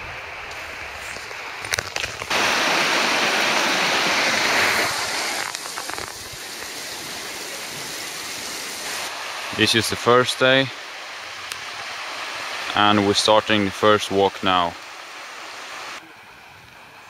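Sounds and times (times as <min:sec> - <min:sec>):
river rushing over stones: 0:00.2 - 0:17.0.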